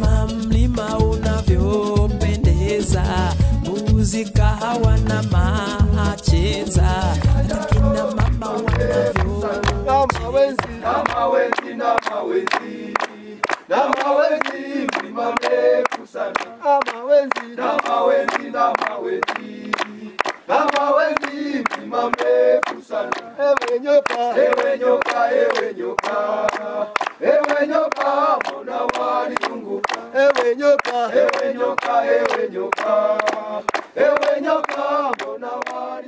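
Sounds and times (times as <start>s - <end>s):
men singing in chorus: 0.0s - 36.0s
hands clapping: 4.8s - 5.8s, 6.6s - 35.9s.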